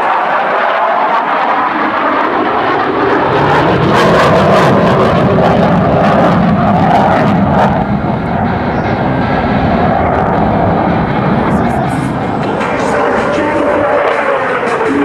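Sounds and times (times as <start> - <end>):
jet engines roaring: 0.0 - 15.0
jet crackling: 2.5 - 15.0.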